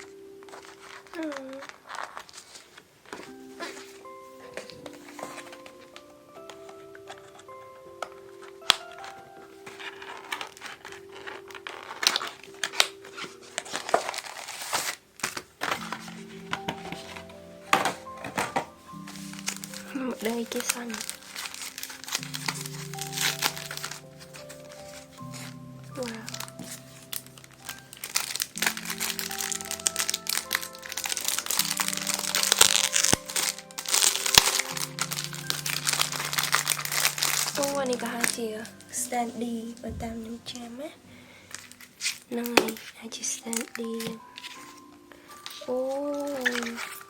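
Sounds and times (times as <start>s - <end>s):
faint background music: 0.0s - 47.0s
packaging crinkling and rustling: 0.0s - 47.0s.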